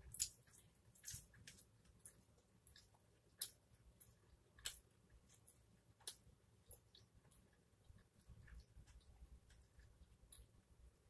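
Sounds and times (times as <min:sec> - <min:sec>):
person chewing pizza: 0:00.0 - 0:11.0.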